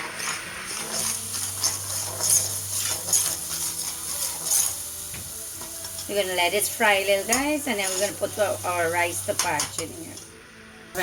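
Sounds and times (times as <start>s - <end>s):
spoon scraping a pan: 0.0s - 10.3s
paste sizzling in a pan: 0.0s - 10.4s.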